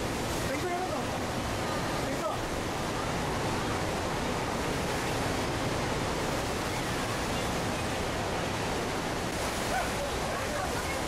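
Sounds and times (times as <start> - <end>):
water churning: 0.0 - 11.0
waterfall roar: 0.0 - 11.0.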